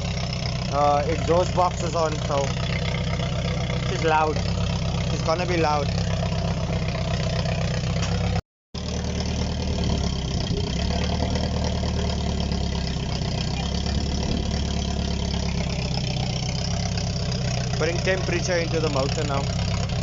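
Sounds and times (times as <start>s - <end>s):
car engine at fast idle: 0.0s - 20.0s.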